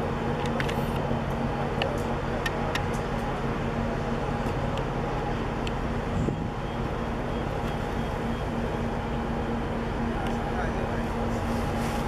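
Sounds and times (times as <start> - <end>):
low mechanical rumble with hum: 0.0 - 12.0.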